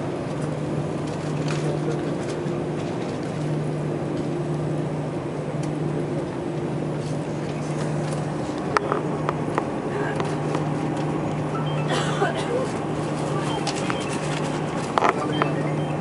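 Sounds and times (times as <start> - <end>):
airliner cabin engine noise: 0.0 - 16.0.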